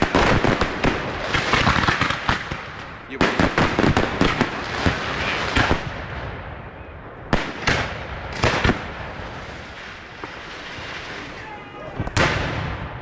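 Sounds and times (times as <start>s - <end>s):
fireworks bursting in bangs: 0.0s - 6.6s, 7.3s - 13.0s.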